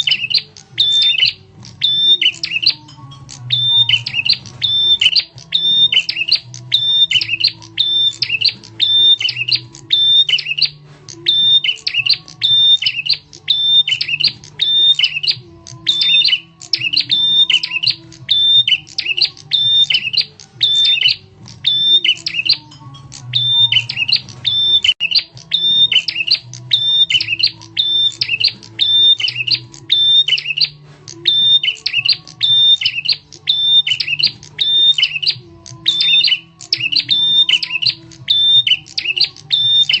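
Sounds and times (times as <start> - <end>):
bird lure chirping call: 0.0 - 40.0.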